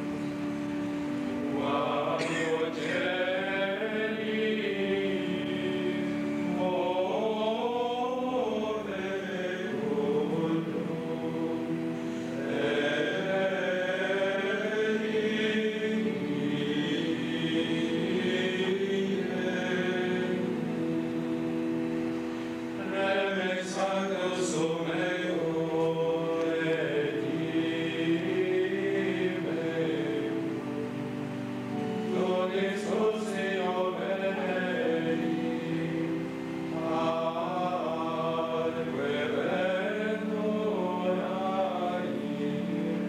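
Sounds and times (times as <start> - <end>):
voices chanting plainchant: 0.0 - 43.0.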